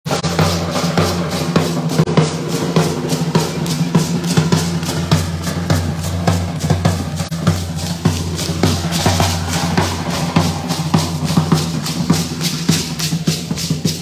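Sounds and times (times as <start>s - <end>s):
large drum beaten in rhythm: 0.1s - 14.0s.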